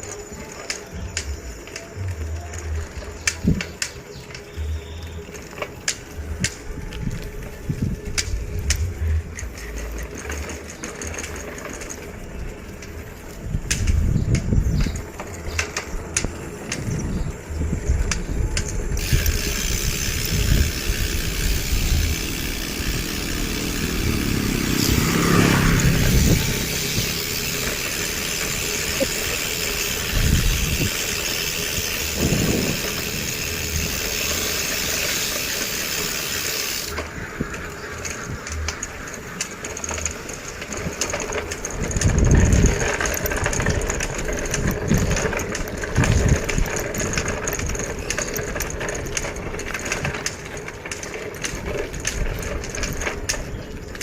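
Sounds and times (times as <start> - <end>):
low engine rumbles: 0.0 - 54.0
motor vehicle passing: 1.0 - 54.0.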